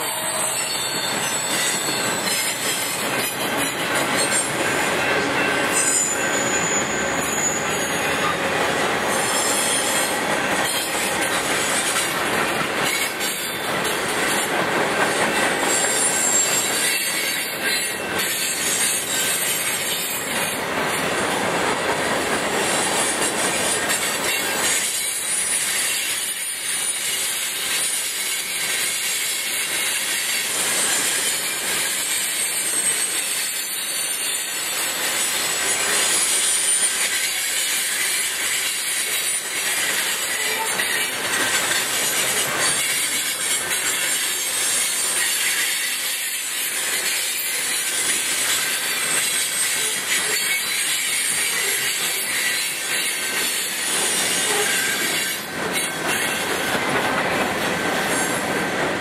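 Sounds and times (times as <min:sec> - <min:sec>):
high wheel squeal: 0:00.0 - 0:14.6, 0:15.2 - 0:21.4, 0:22.6 - 0:58.6
train wheels rumbling and clattering: 0:00.0 - 0:59.0.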